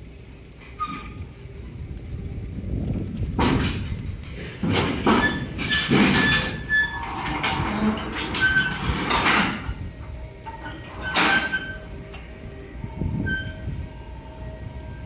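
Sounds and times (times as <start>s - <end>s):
faint whining tones: 0.0s - 15.0s
machinery low rumble: 0.0s - 15.0s.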